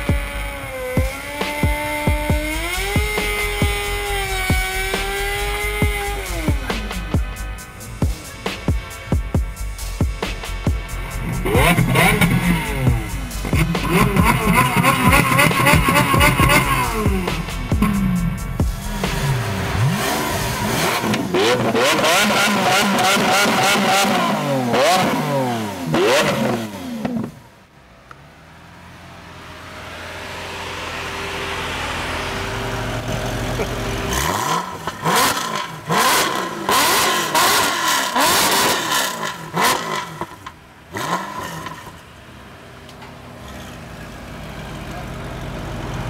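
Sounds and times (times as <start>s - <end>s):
car engine idling: 0.0s - 46.0s
second car engine revving: 0.0s - 46.0s
sports car engine revving: 0.0s - 46.0s.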